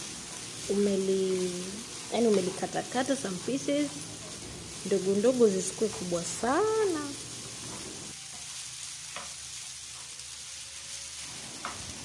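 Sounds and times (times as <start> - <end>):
frying sizzle in a pan: 0.0 - 12.0.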